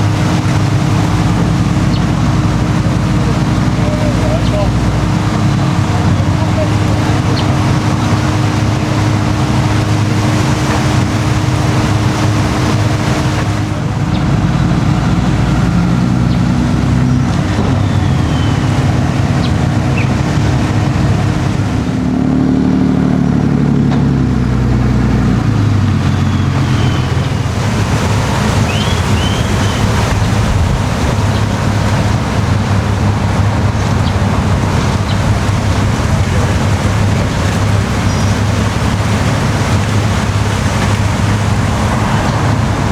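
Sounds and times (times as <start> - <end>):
engine revving: 0.0 - 42.9
motor engines running: 0.0 - 42.9.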